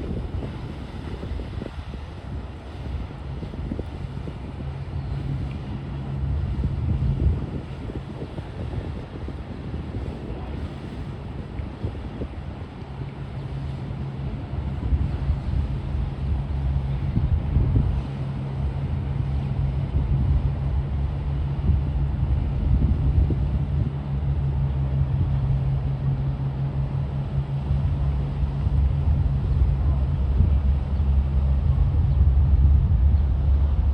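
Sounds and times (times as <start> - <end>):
boat engine droning: 0.0 - 33.9.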